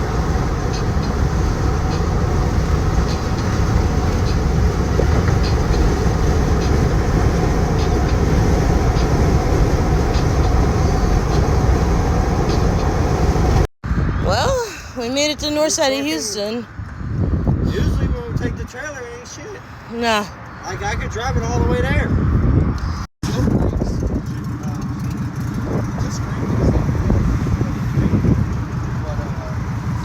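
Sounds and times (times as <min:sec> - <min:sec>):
vehicle road and engine noise: 0:00.0 - 0:30.0.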